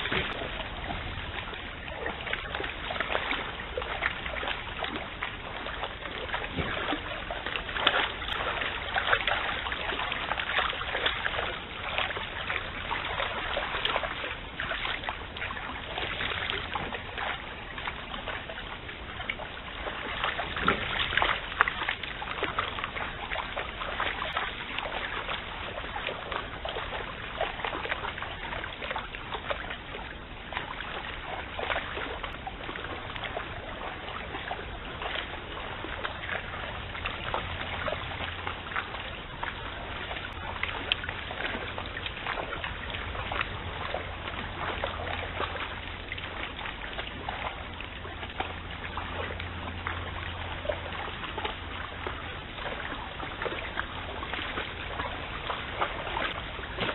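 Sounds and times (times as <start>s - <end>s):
flowing water: 0.0s - 56.9s
splashing of water: 0.0s - 56.9s.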